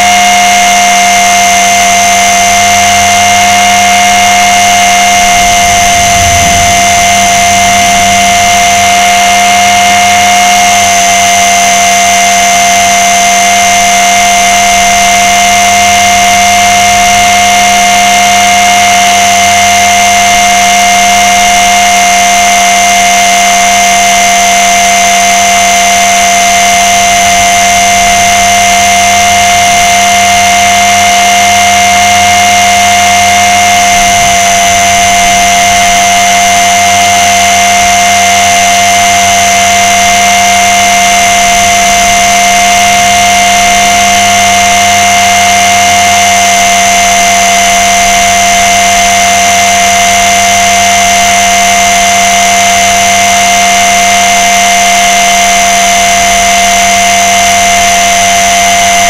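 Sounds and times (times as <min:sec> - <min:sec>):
rc helicopter motor whine: 0:00.0 - 0:59.0.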